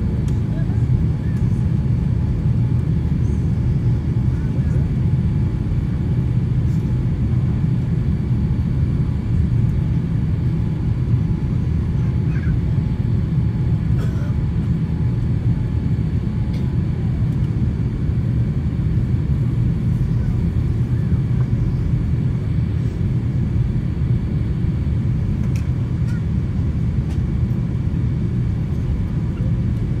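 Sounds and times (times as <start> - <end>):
jet airliner cabin rumble: 0.0 - 30.0.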